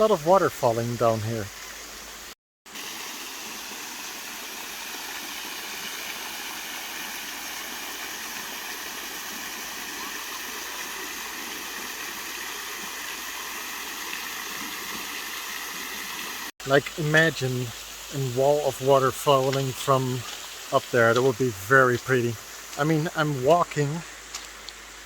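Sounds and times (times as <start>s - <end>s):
small waterfall splashing: 0.0s - 25.0s.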